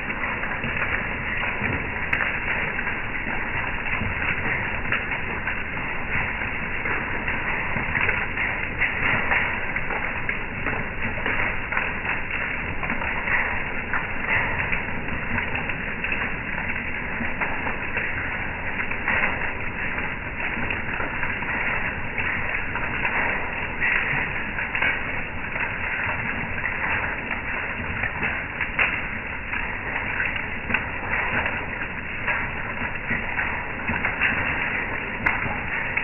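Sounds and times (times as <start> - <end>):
hail and heavy rain clattering: 0.0 - 36.0.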